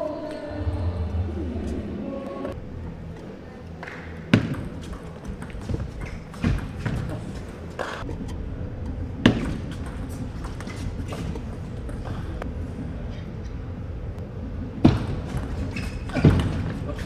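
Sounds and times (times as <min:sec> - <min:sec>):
hall background noise: 0:00.0 - 0:17.0.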